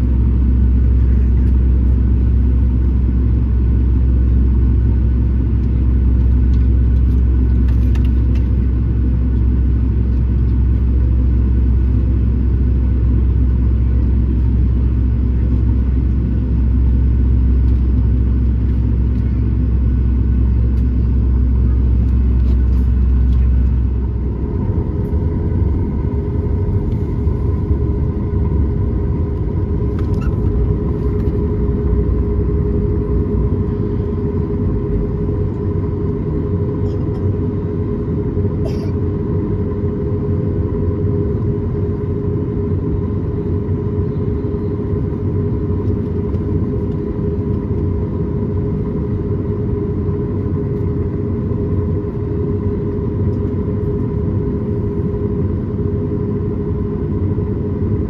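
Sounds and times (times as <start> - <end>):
jet engine rumble: 0.0 - 58.0
jet engine whine: 0.0 - 58.0.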